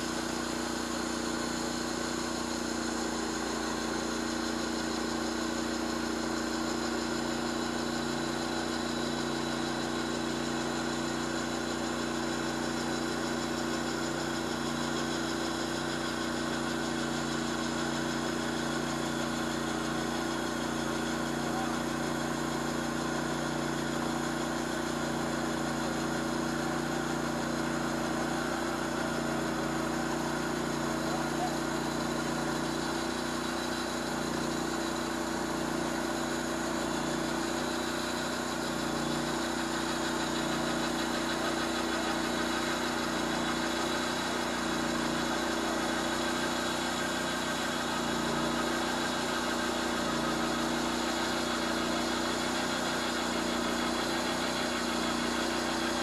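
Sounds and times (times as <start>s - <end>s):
band blade sawing log: 0.0s - 56.0s
sawmill engine running: 0.0s - 56.0s.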